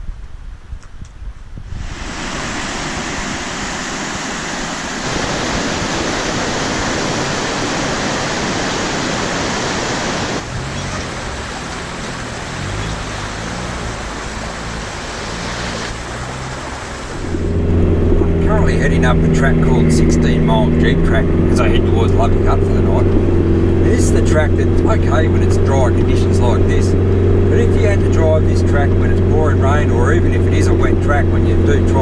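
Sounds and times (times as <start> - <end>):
fast-flowing water rushing: 1.7 - 32.0.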